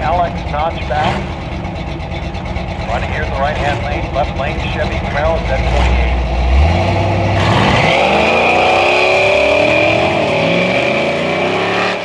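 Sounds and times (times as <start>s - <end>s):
race car engines accelerating: 0.0s - 12.0s.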